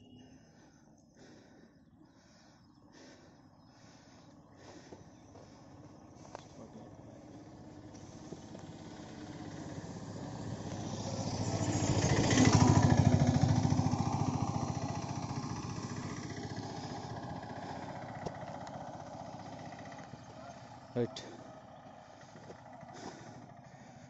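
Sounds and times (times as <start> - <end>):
vehicle passing by: 2.2 - 24.0.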